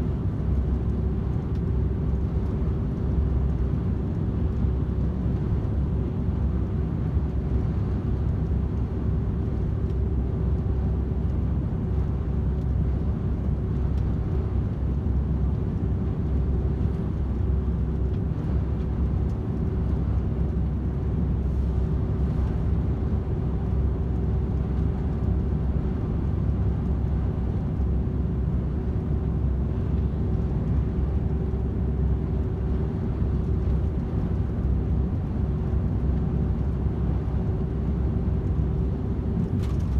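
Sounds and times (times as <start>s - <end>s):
constant hum: 0.0s - 39.9s
truck engine and road rumble: 0.0s - 39.9s.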